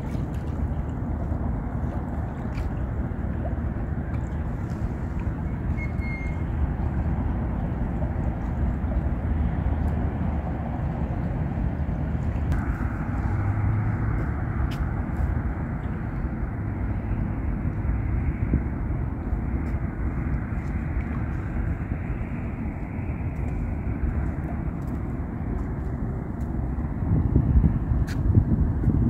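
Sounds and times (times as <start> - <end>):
low rushing noise: 0.0 - 29.0.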